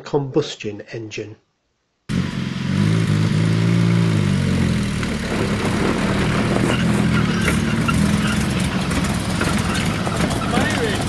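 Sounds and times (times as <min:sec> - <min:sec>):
car engine running: 0:02.1 - 0:11.0.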